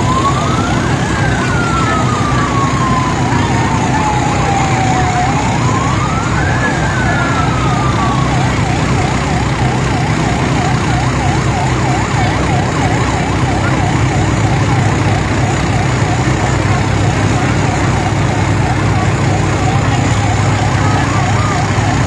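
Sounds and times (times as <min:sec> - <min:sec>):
fast warbling fire engine siren: 0:00.0 - 0:22.0
low engine rumble: 0:00.0 - 0:22.0
slow wailing fire engine siren: 0:00.0 - 0:22.0.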